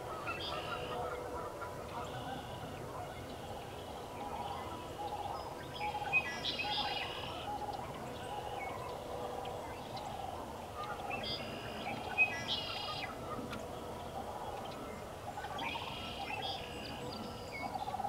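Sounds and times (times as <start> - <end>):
bright bird song: 0.0 - 18.0.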